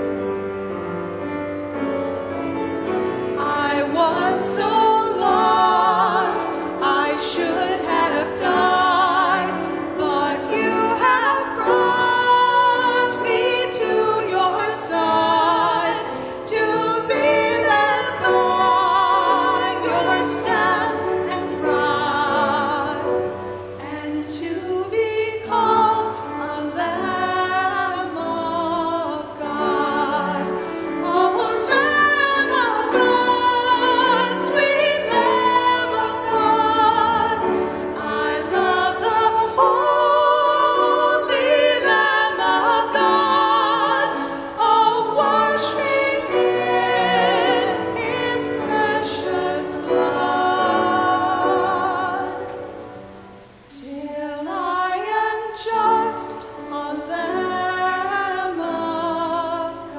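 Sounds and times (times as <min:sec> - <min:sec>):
two women singing a duet: 0:03.4 - 0:59.9.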